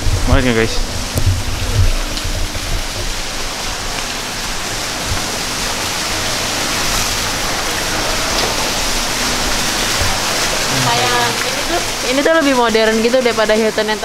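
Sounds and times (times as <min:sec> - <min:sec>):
water splashing into pools: 0:00.0 - 0:14.0.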